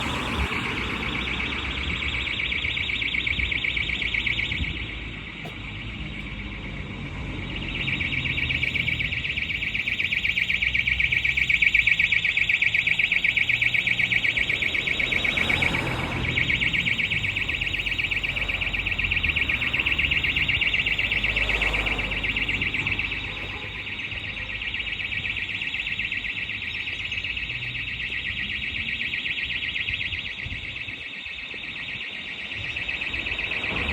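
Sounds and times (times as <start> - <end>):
fire alarm buzzing: 0.0 - 33.9.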